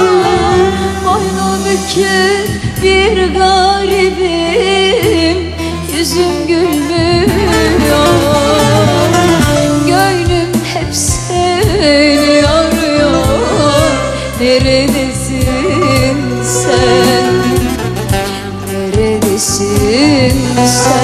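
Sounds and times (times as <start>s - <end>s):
instrumental accompaniment: 0.0s - 21.0s
woman singing into microphone: 0.0s - 21.0s.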